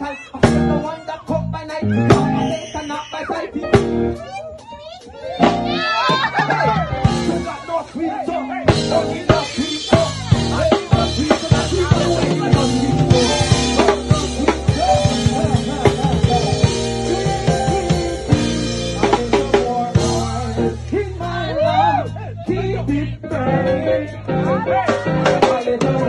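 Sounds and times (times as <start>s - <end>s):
bass line: 0.0s - 4.6s, 5.2s - 26.0s
dance music beat: 0.1s - 23.4s.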